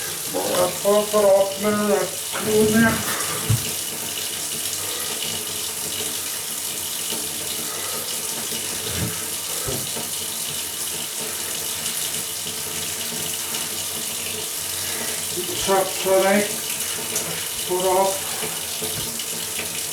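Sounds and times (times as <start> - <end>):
water running from a tap: 0.0 - 19.9.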